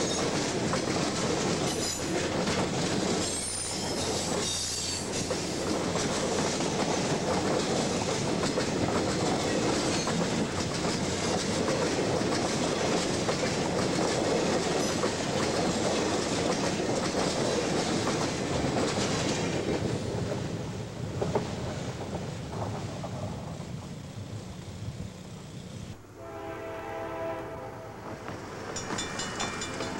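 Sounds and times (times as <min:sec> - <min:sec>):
train wheels clattering over rails: 0:00.0 - 0:25.6, 0:28.2 - 0:29.9.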